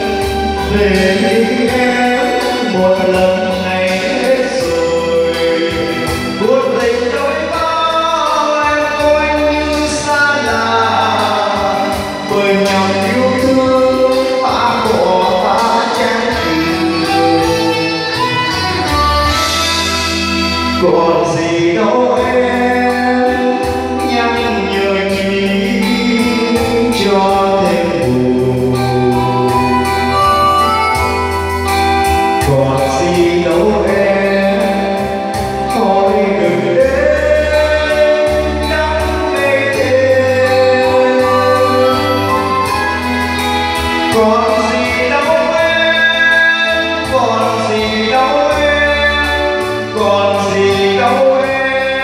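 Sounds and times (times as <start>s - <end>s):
backing track with steady beat: 0.0s - 52.0s
man singing into a microphone: 0.0s - 52.0s.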